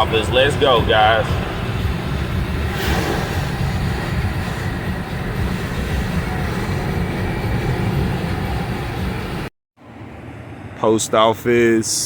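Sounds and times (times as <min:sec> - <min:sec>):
truck engine and tyre rumble: 0:00.0 - 0:12.0.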